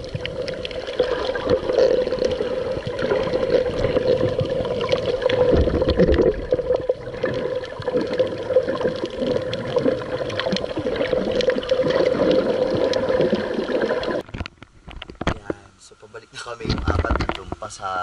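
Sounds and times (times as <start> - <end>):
water sloshing and gurgling: 0.0 - 15.6.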